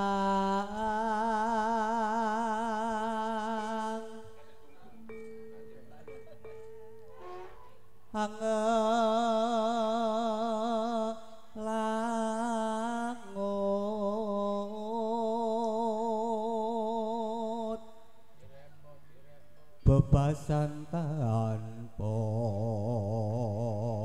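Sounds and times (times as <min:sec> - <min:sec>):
man singing unaccompanied: 0:00.0 - 0:05.3, 0:08.1 - 0:18.1, 0:19.8 - 0:24.0.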